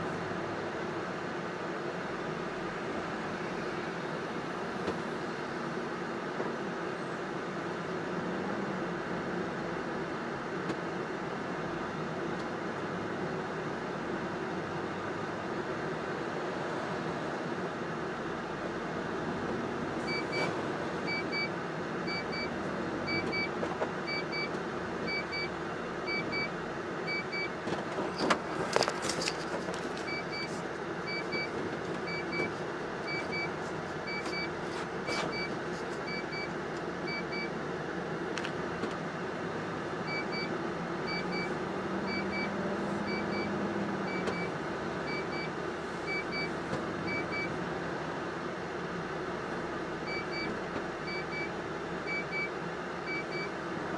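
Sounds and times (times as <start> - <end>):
road noise: 0.0 - 53.9
truck engine running: 0.0 - 53.9.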